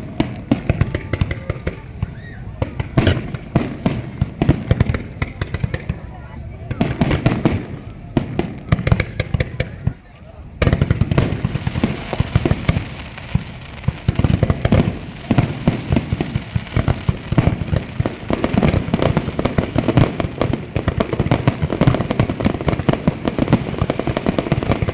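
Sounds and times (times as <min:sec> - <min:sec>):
fireworks booms and bangs: 0:00.0 - 0:24.9.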